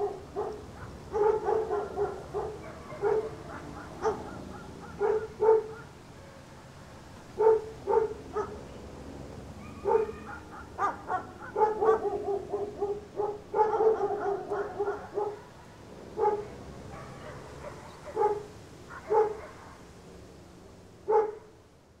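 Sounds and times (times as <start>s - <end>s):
dog barking: 0.0s - 6.0s, 7.4s - 8.6s, 9.6s - 19.8s, 21.1s - 21.5s.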